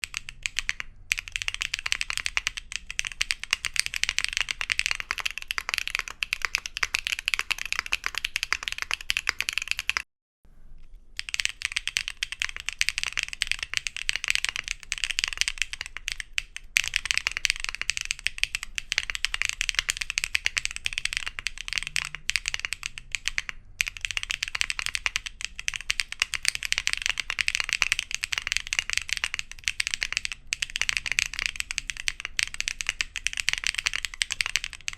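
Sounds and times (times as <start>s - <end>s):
typing on mechanical keyboard: 0.0s - 10.1s, 11.2s - 34.9s.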